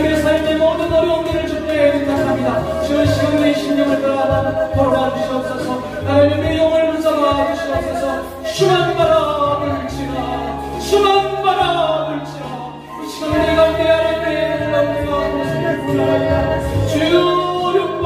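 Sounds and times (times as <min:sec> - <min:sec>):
electronic keyboard chords: 0:00.0 - 0:18.0
man singing into a microphone: 0:00.0 - 0:18.0.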